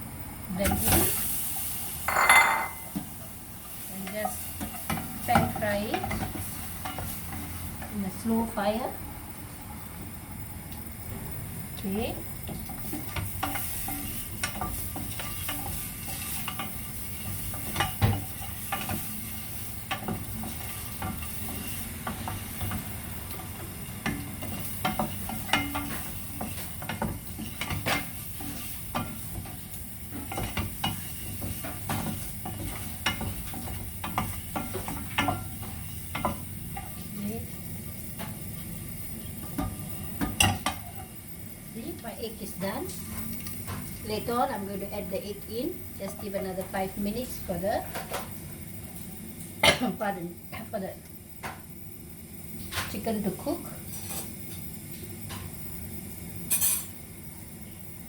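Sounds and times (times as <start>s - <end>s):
eggs sizzling in frying pan: 0.0s - 58.0s.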